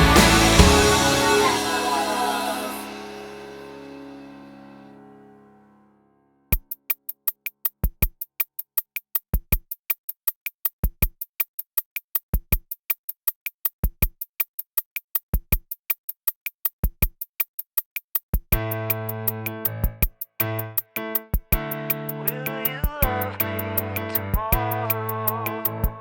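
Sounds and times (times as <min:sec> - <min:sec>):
drum machine beat: 0:00.0 - 0:03.4, 0:06.6 - 0:19.1, 0:19.8 - 0:23.4, 0:24.4 - 0:26.0.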